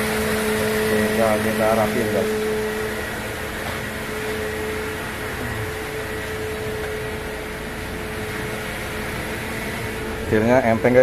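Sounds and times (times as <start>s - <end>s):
car engine idling: 0.0s - 11.0s
faint steady whine: 0.0s - 11.0s.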